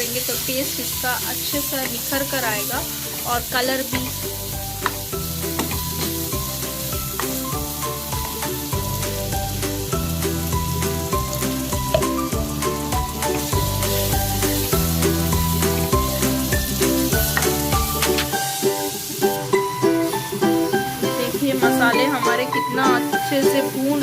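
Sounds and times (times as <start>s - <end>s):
background music: 0.0s - 24.0s
spices sizzling in oil: 0.0s - 24.0s.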